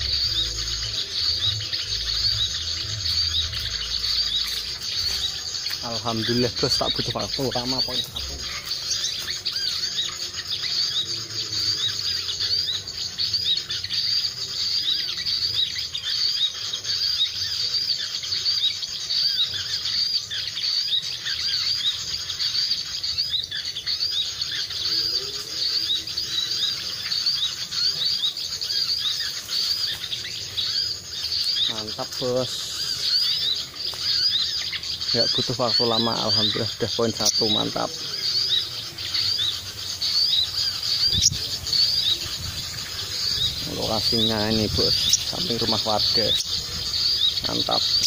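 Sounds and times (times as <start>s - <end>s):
insects buzzing: 0.0s - 48.0s
small birds chirping: 0.0s - 48.0s.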